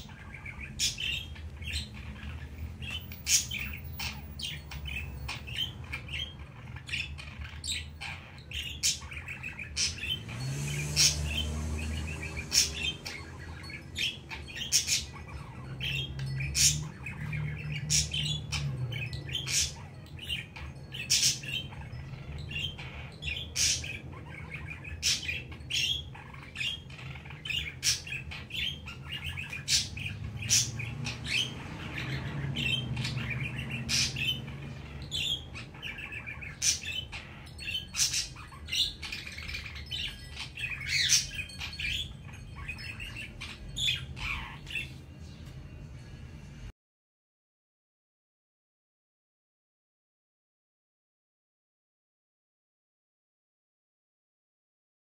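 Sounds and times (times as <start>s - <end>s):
budgerigar chattering: 0.0s - 44.9s.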